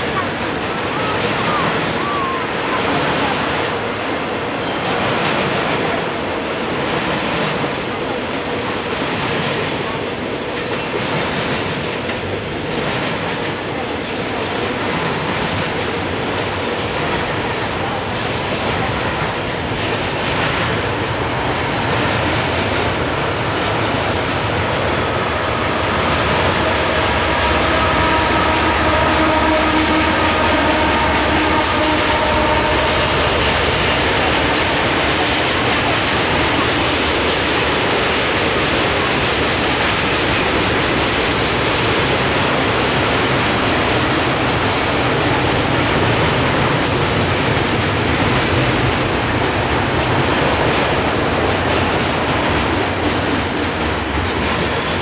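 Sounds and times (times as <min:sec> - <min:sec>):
diesel locomotive passing: 0:00.0 - 0:55.0
freight wagons rumbling on rails: 0:00.0 - 0:55.0.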